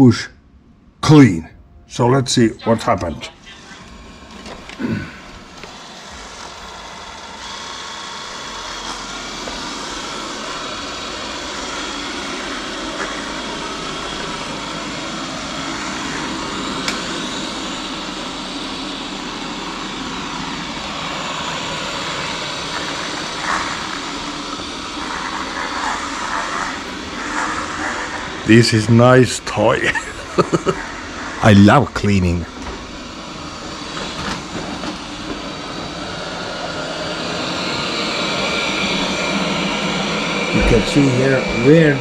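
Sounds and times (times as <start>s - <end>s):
robot vacuum suction fan: 2.7s - 42.0s.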